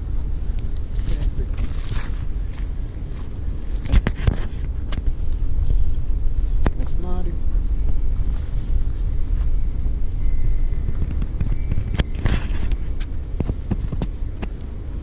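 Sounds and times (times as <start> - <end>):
wind rumble on microphone: 0.0 - 15.0
microphone handling noise: 0.2 - 14.6.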